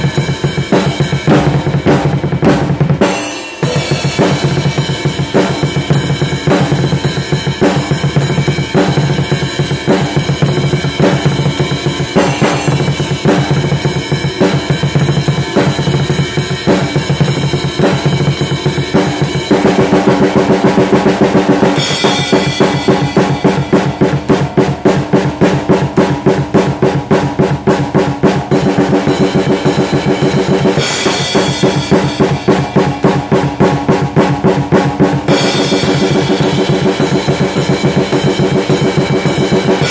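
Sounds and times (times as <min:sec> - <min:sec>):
acoustic drum kit playing: 0:00.0 - 0:39.9.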